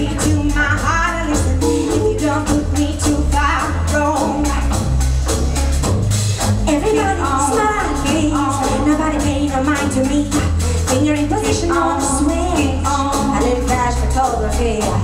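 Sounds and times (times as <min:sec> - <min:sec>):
person singing: 0:00.0 - 0:04.9, 0:06.7 - 0:15.0
regular percussion: 0:00.0 - 0:15.0
steady bass line: 0:00.0 - 0:15.0.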